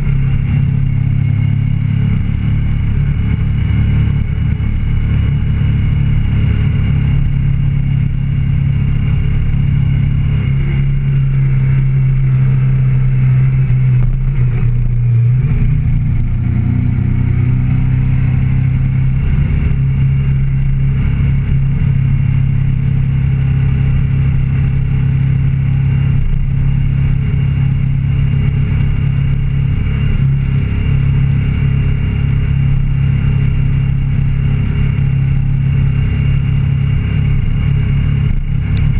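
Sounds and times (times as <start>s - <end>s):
motorcycle engine cruising: 0.0s - 38.9s
road noise: 0.0s - 38.9s
wind noise: 0.0s - 38.9s.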